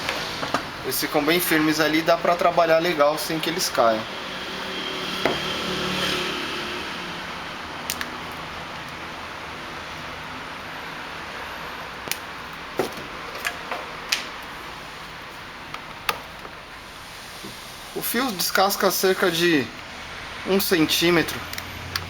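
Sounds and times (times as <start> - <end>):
steady background hiss: 0.0 - 5.5, 6.4 - 22.0.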